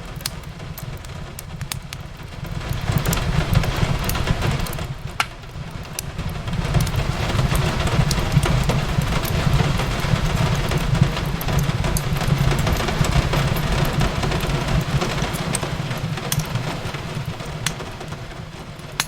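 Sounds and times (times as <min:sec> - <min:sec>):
rain on a window: 0:00.0 - 0:19.0
wood fire crackling and popping: 0:00.0 - 0:19.0.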